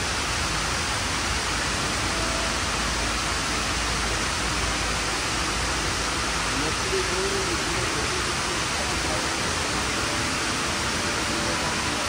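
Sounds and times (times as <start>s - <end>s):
indoor waterfall rushing: 0.0s - 12.0s.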